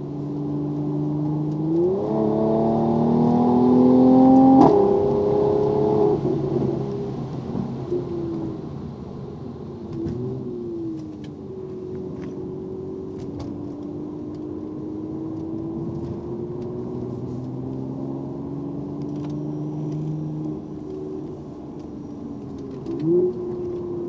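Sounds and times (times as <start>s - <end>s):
car engine hum inside cabin: 0.0s - 24.0s.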